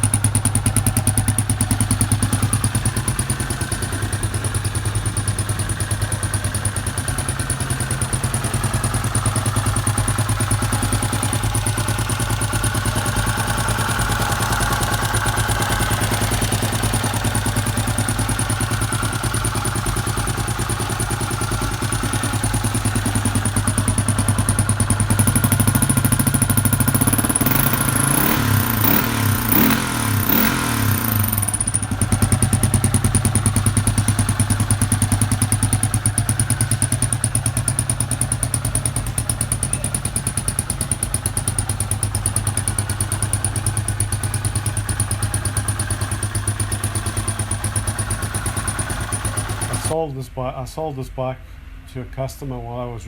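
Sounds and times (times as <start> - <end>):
motorcycle engine idling and revving: 0.0 - 50.0.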